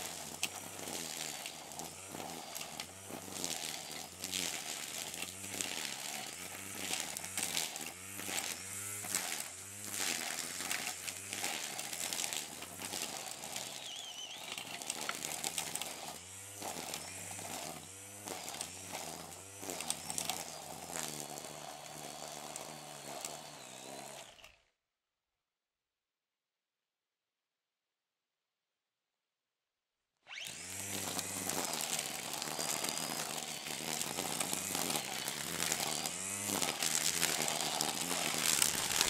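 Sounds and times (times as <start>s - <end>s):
brush cutter engine revving: 0.0s - 24.7s, 30.3s - 39.0s.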